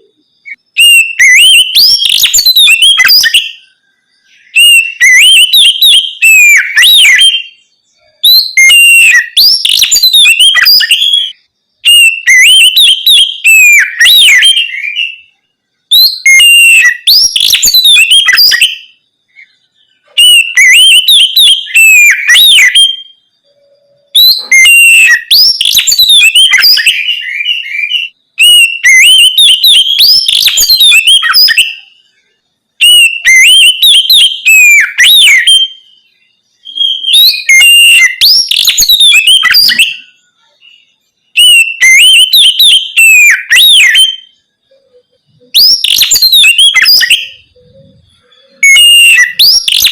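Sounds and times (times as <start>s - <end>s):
bird singing whistled phrases: 0.0s - 49.9s.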